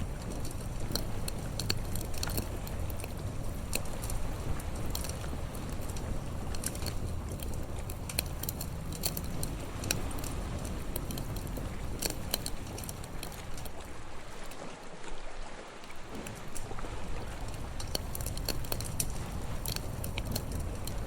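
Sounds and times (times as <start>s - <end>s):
campfire crackling and popping: 0.0s - 14.6s, 15.8s - 21.0s
seaside waves: 0.0s - 21.0s.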